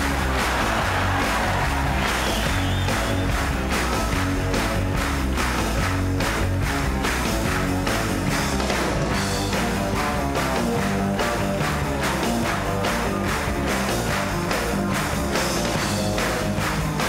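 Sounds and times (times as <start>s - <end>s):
electric guitars: 0.0s - 17.0s
steady drum beat: 0.0s - 17.0s.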